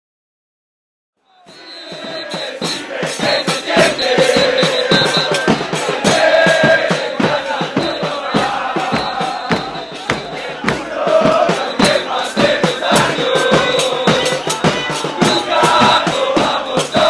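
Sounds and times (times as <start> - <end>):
crowd singing a chant: 1.2 - 17.0
quick steady drum beat: 1.3 - 17.0.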